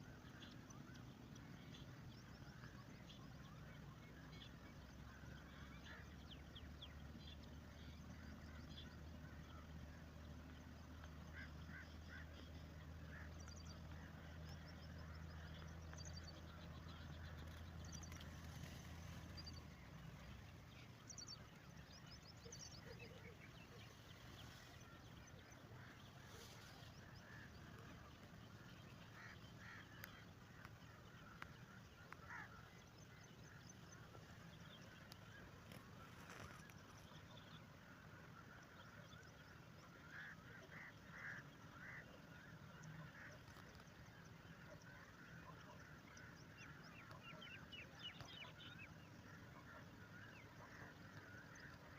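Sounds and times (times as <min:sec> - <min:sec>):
faint bird calls: 0:00.0 - 0:51.9
low steady hum: 0:00.0 - 0:51.9.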